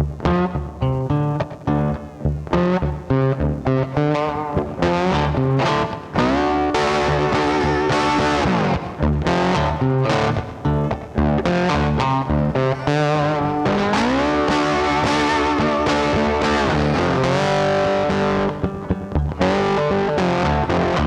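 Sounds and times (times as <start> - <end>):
distorted electric guitar riffs: 0.0 - 21.0
bass line: 2.2 - 21.0.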